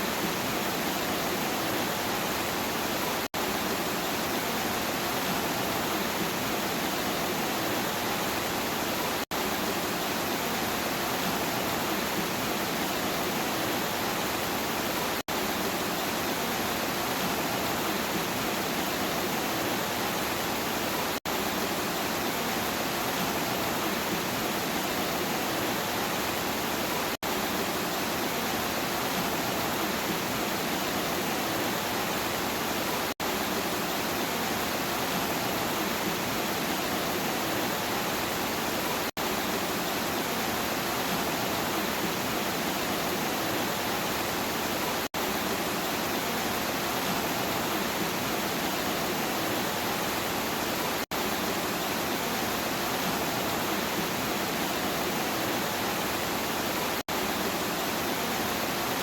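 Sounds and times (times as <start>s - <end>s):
heavy rainfall hiss: 0.0s - 59.0s.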